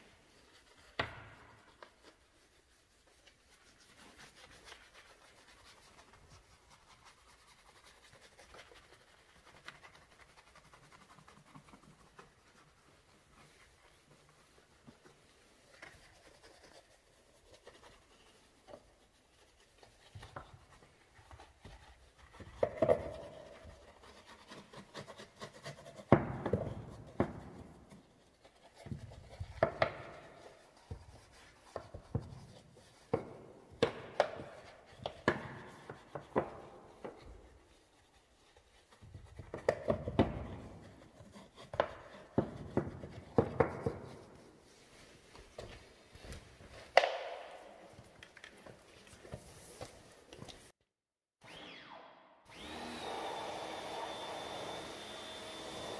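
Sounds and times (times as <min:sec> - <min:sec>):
brush scrubbing: 0:00.0 - 0:50.8.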